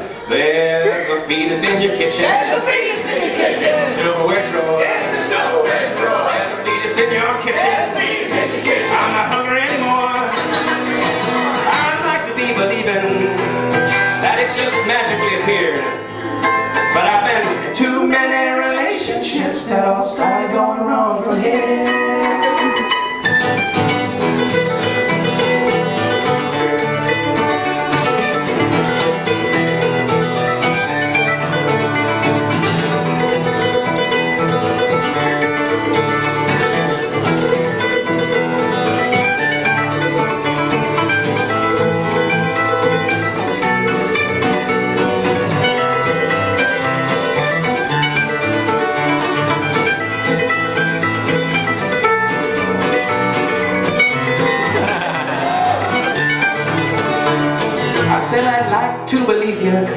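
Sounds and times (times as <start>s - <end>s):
acoustic guitar playing: 0.0s - 59.9s
mandolin picking: 0.0s - 59.9s.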